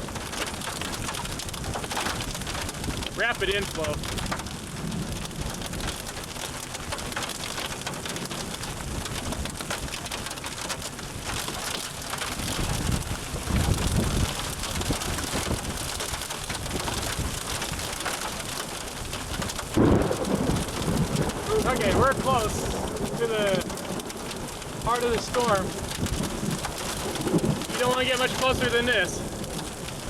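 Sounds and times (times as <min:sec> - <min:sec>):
heavy rain on car: 0:00.0 - 0:30.0.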